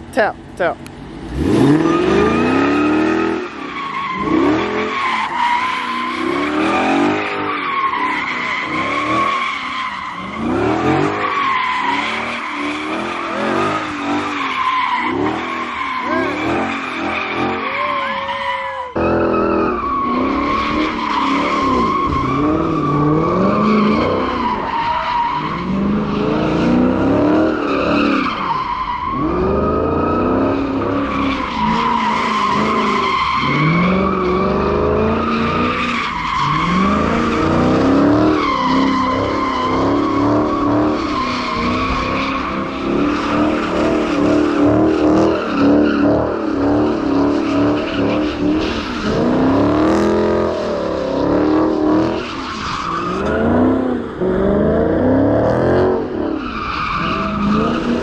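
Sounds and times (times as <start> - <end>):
car engine revving: 0.4 - 58.0
tires squealing: 1.2 - 58.0.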